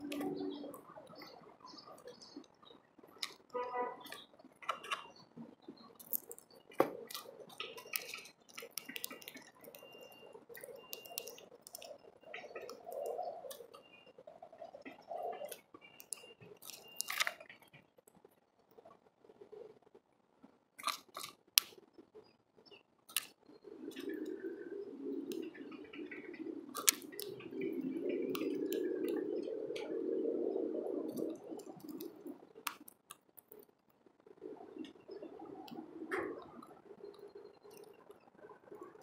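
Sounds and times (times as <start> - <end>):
birds pecking and cracking seed: 0.0 - 19.0, 20.8 - 39.0.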